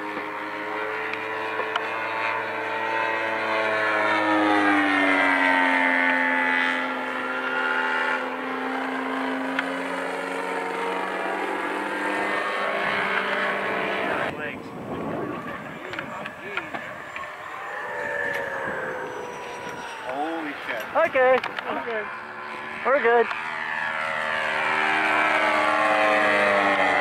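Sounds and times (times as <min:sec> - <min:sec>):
model airplane motor droning: 0:00.0 - 0:27.0.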